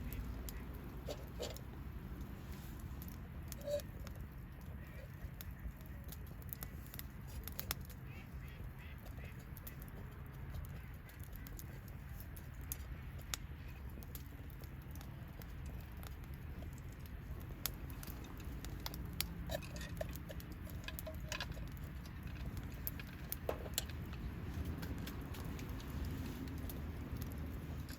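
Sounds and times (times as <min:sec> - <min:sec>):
bonfire crackling and popping: 0:00.0 - 0:27.9
low steady rumble: 0:00.0 - 0:27.9.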